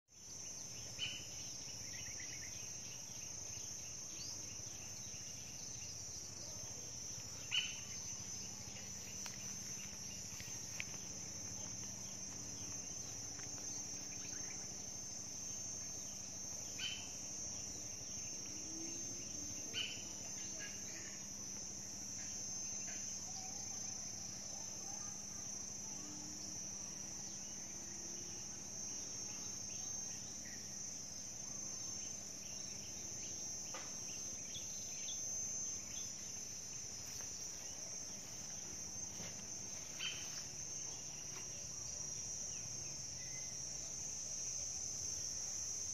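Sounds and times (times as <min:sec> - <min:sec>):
high-pitched insect chorus: 0:00.1 - 0:45.9.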